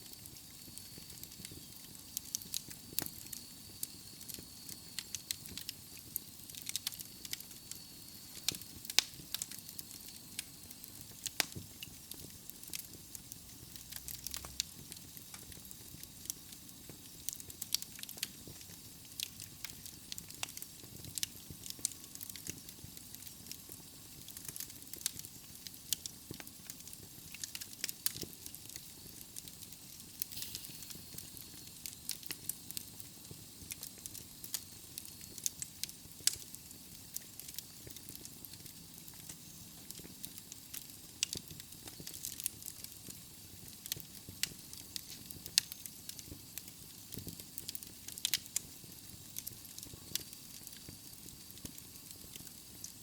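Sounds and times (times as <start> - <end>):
hiss of flames: 0.0 - 53.0
logs crackling and popping: 0.1 - 53.0.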